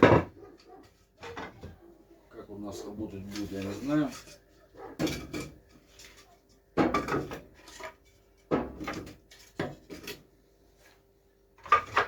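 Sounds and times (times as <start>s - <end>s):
rustling and clattering: 0.0s - 1.9s, 3.2s - 12.0s.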